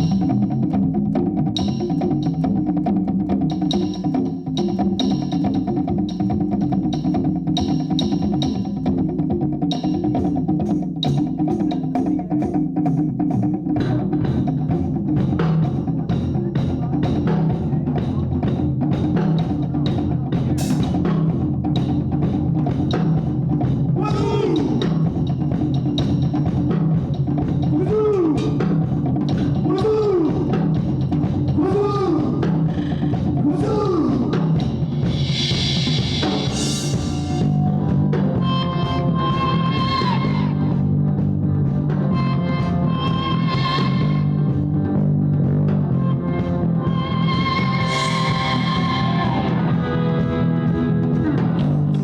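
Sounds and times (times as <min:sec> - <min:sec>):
drum kit beat: 0:00.0 - 0:52.0
rock band playing: 0:00.0 - 0:52.0.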